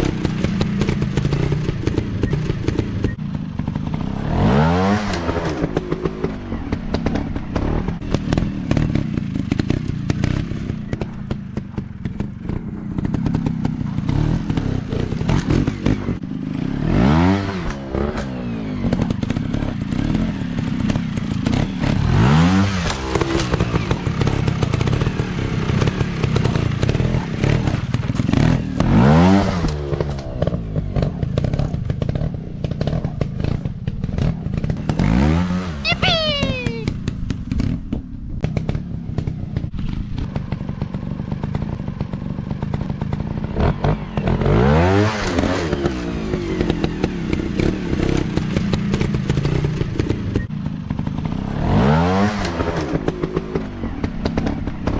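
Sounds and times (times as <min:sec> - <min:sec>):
dirt bike engine revving: 0:00.0 - 0:36.9, 0:38.5 - 0:54.9.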